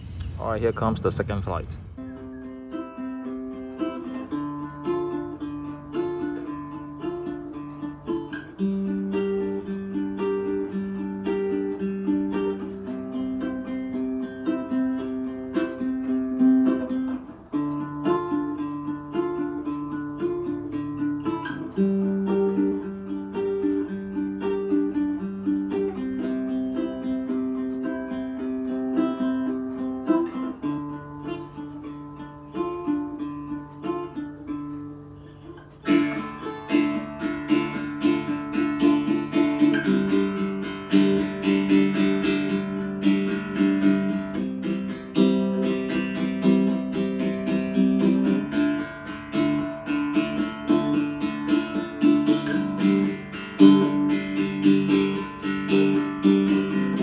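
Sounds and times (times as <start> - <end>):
instrumental music: 0.0 - 57.0.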